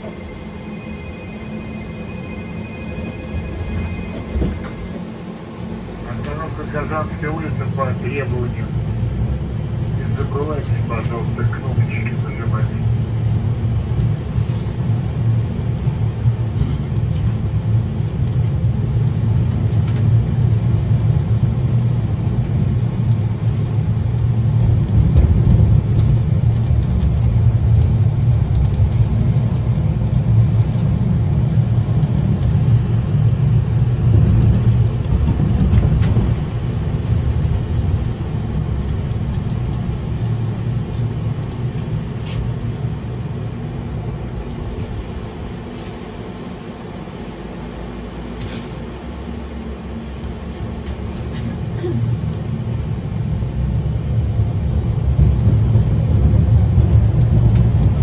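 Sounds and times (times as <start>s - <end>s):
tram rumbling along track: 0.0s - 58.0s.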